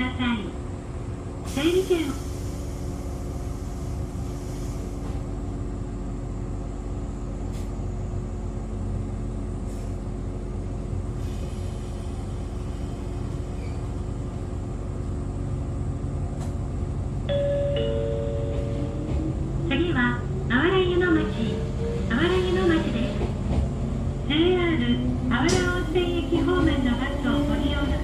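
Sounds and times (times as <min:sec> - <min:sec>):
railcar rumble and hum: 0:00.0 - 0:28.0.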